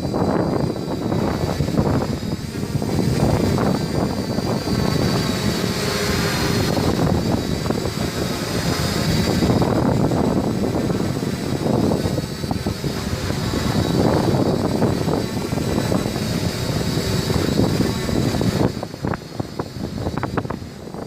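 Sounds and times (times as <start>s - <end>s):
quadcopter motors whining: 0.0s - 21.0s
wind buffeting microphone: 0.0s - 21.0s.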